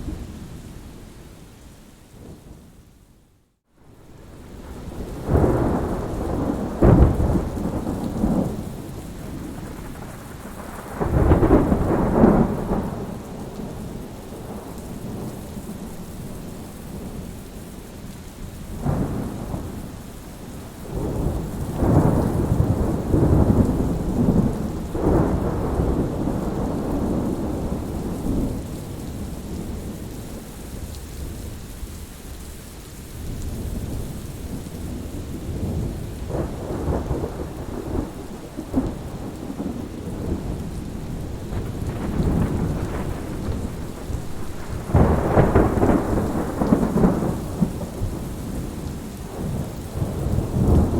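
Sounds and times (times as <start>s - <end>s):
steady rain: 0.0s - 50.9s
thunder rumbling: 4.0s - 17.3s, 20.6s - 31.6s, 33.3s - 50.9s.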